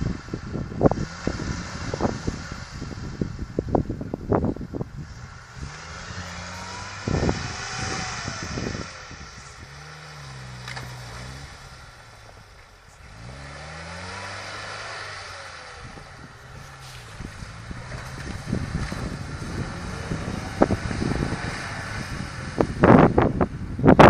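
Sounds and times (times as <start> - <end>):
off-road truck engine revving: 0.0 - 24.0
rumbling noise on microphone: 0.0 - 24.0.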